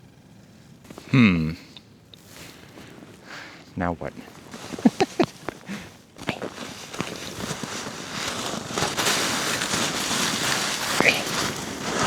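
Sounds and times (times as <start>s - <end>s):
dense crackling and crunching: 0.3s - 12.0s.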